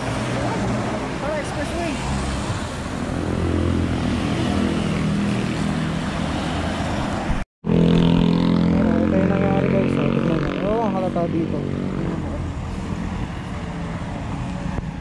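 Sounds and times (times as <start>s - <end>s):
cars and motorcycles passing: 0.0s - 15.0s
engine hum and road noise: 0.0s - 15.0s.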